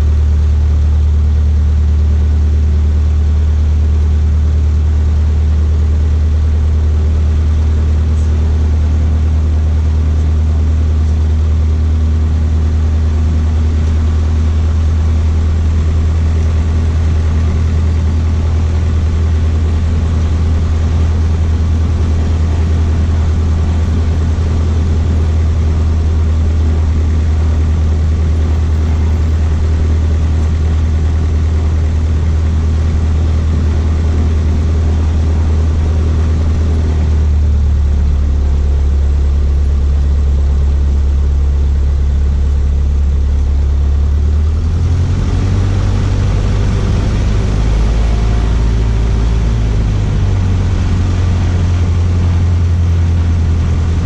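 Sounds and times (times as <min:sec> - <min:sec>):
aircraft engine and propeller drone: 0:02.5 - 0:54.0.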